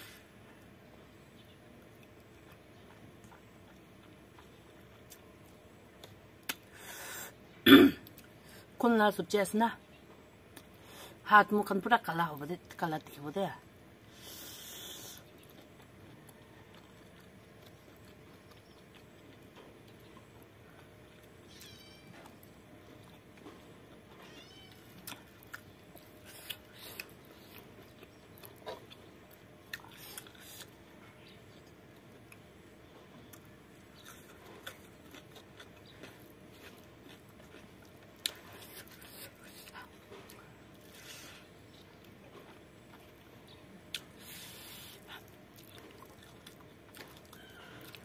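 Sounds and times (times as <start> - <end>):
person chewing food: 0.4 - 7.4, 14.0 - 48.0.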